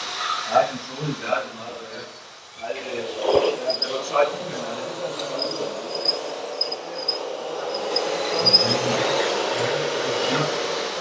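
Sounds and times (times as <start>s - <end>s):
small electric motors whirring: 2.1s - 11.0s.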